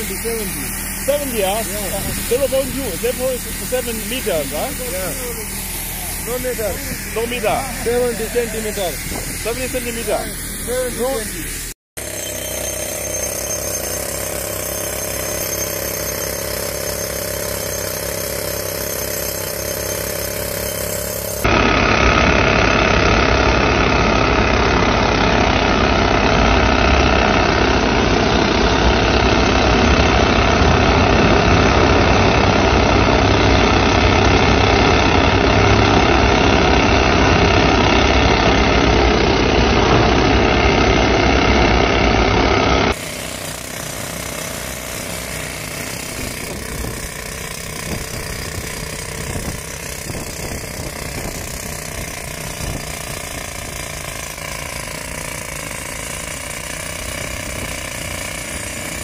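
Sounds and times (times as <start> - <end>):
pneumatic rock drills hammering: 0.0 - 59.0.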